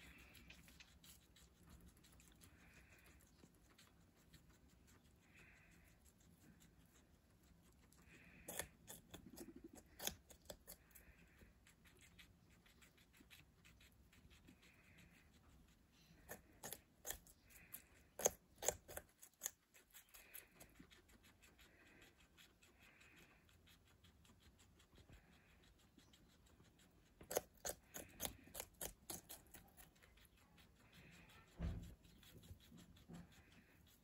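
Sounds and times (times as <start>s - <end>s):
guinea pig crunching pepper: 0.0s - 34.0s.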